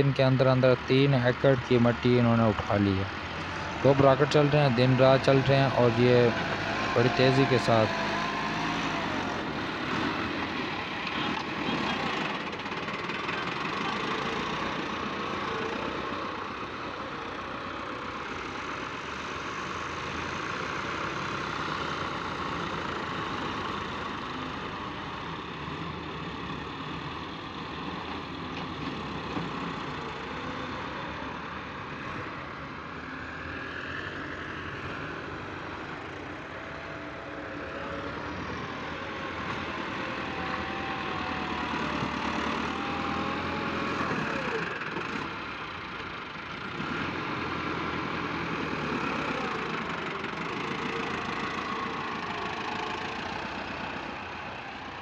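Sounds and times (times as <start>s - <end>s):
diesel tractor engines running: 0.0s - 55.0s.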